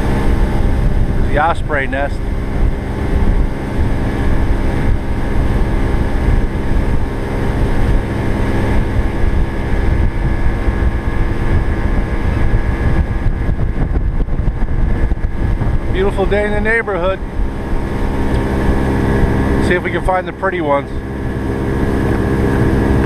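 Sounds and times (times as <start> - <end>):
boat motor running: 0.0 - 23.0
wind rumbling on microphone: 0.0 - 23.0.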